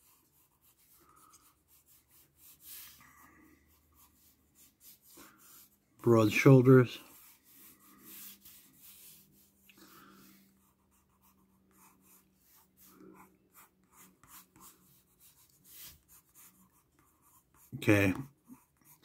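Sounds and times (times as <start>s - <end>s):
pencil scratching on paper: 0.0s - 19.0s.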